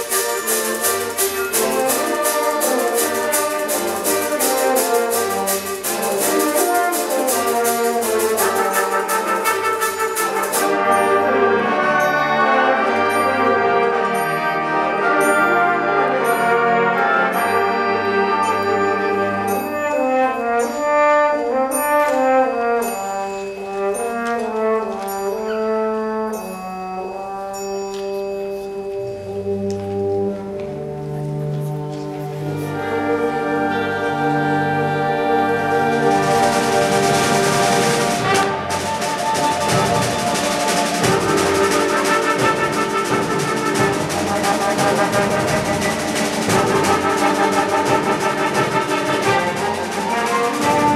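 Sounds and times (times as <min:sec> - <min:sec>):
symphonic band playing: 0:00.0 - 0:50.9.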